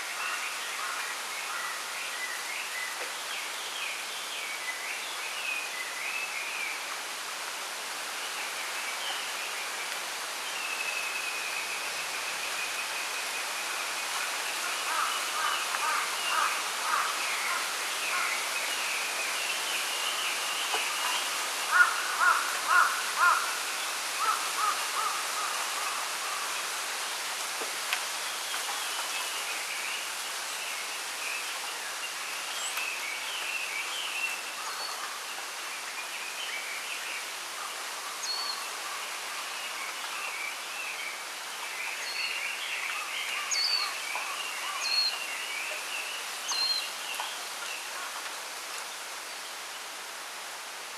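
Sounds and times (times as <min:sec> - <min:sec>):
wind rustling bamboo leaves: 0:00.0 - 0:50.9.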